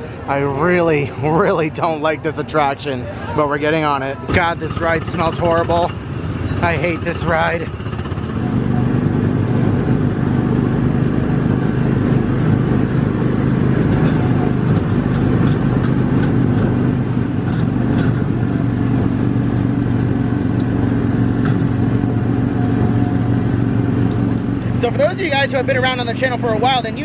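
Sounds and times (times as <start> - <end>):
small gasoline engine running: 4.6 - 27.0.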